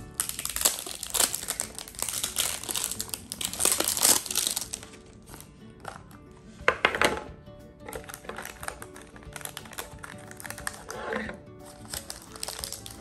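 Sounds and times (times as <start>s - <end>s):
plastic wrap crinkling: 0.0s - 6.2s, 7.8s - 13.0s.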